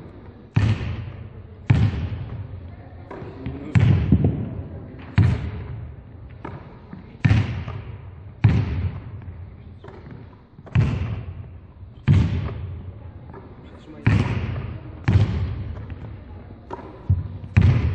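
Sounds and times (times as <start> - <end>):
balls bouncing on wooden floor: 0.0 - 17.9.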